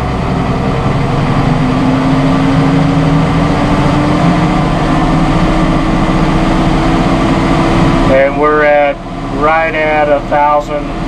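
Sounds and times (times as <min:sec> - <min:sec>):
tractor diesel engine speeding up: 0:00.0 - 0:11.0.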